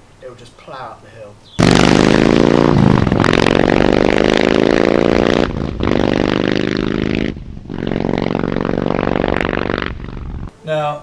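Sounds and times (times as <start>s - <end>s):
motorcycle engine accelerating: 1.6s - 10.5s.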